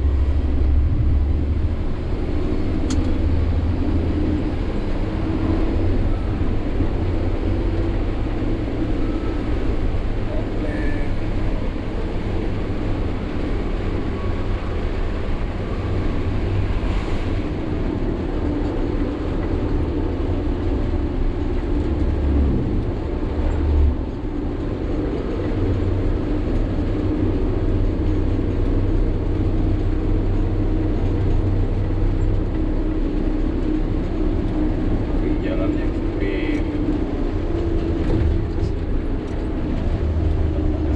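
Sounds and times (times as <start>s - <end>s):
truck diesel engine drone: 0.0s - 40.9s.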